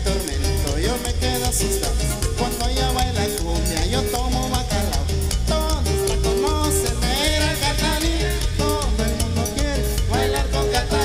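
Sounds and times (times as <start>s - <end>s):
latin dance band music: 0.0s - 11.0s.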